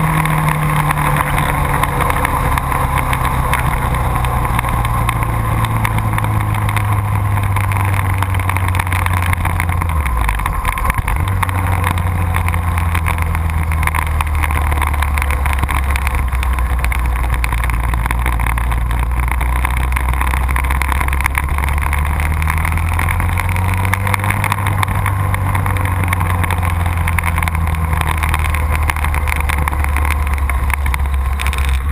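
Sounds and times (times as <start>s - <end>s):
motorcycle engine running hard: 0.0s - 31.9s
rushing noise: 0.0s - 31.9s.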